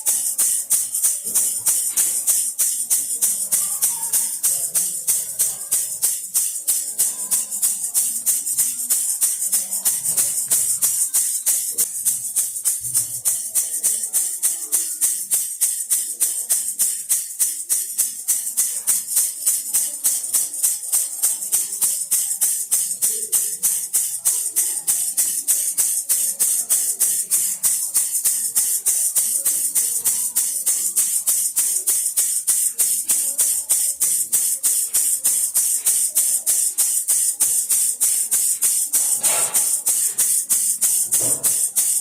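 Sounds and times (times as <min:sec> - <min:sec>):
baby rattle shaking: 0:00.0 - 0:42.0.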